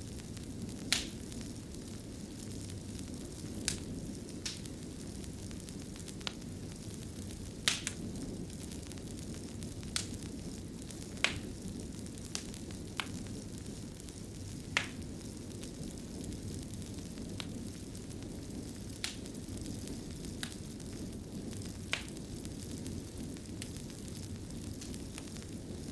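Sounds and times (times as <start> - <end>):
fire burning low rush: 0.0 - 25.9
fire crackles: 0.0 - 25.9.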